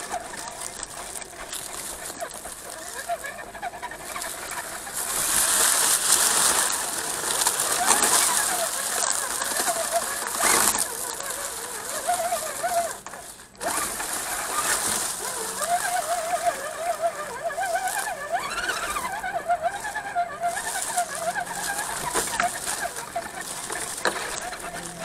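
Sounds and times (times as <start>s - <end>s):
electric motor and gears whining: 0.0s - 25.0s
wheels hissing on trail: 0.0s - 25.0s.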